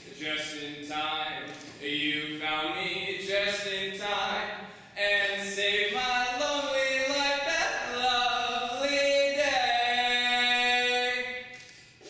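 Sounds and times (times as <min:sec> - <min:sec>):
man singing unaccompanied: 0:01.8 - 0:11.5.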